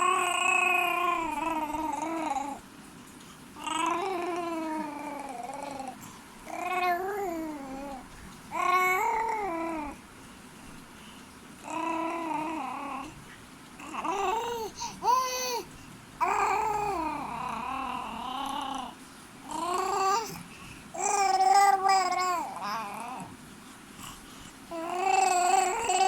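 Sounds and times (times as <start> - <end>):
baby cooing: 0.0 - 2.6, 3.6 - 10.0, 11.6 - 13.2, 13.8 - 23.4, 24.7 - 26.0.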